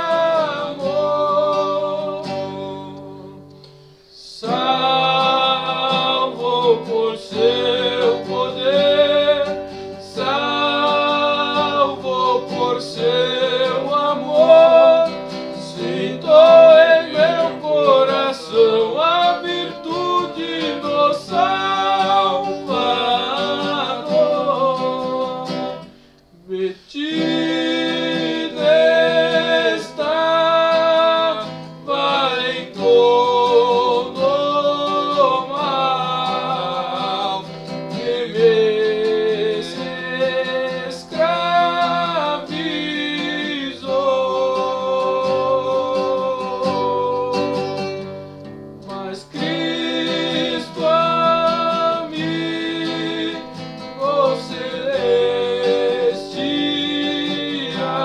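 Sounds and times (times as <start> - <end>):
people singing a hymn: 0.0 - 3.4, 4.2 - 48.0, 48.9 - 58.0
strummed acoustic guitar: 0.0 - 58.0.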